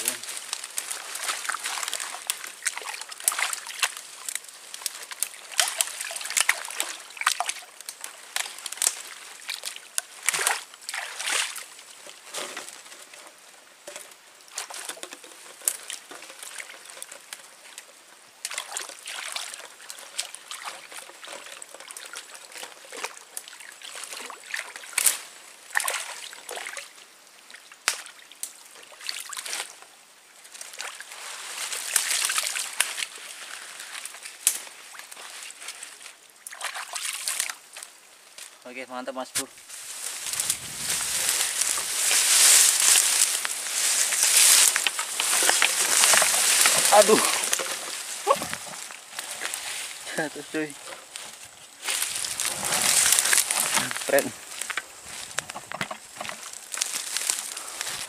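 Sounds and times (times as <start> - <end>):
water sloshing and splashing: 0.0 - 29.7, 30.5 - 38.0, 39.7 - 58.0.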